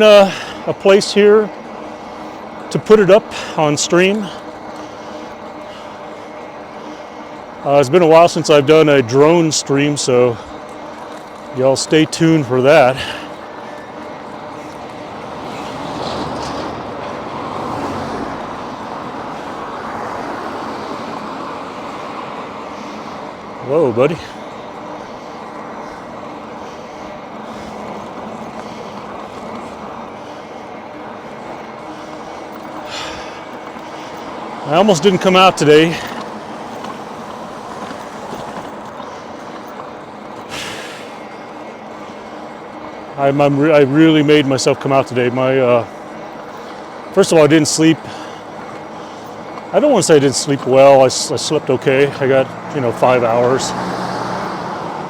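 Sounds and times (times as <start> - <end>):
rushing road traffic: 0.0 - 55.0.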